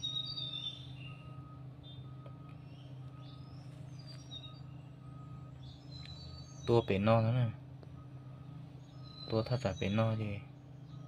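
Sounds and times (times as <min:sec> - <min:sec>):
birds chirping: 0:00.0 - 0:11.0
low steady hum: 0:00.0 - 0:11.0.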